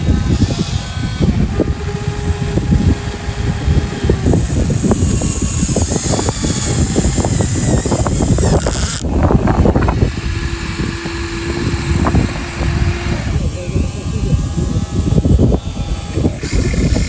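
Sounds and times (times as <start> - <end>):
high electric motor whine: 0.0 - 17.0
low steady hum: 0.0 - 17.0.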